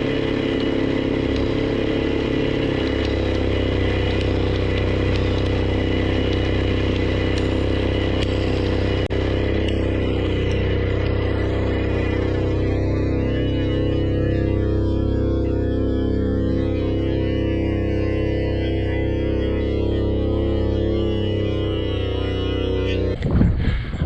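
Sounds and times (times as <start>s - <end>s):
droning chord music: 0.0s - 23.6s.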